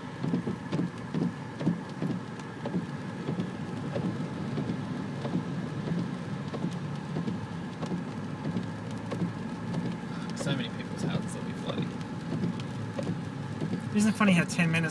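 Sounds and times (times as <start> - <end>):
low water splashes: 0.0 - 14.6
car running: 0.0 - 14.9
rain and water wash: 0.0 - 14.9.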